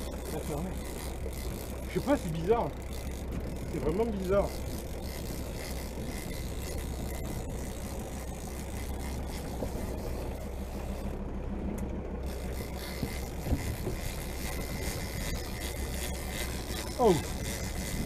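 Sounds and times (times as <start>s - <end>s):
boat engine running: 0.0s - 18.0s
water noise: 0.0s - 18.0s
wind: 0.0s - 18.0s.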